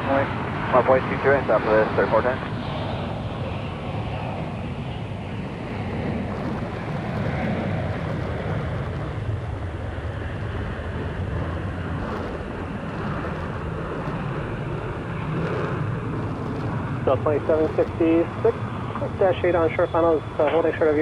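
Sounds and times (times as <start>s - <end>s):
distant jet engines rumbling: 0.0s - 21.0s.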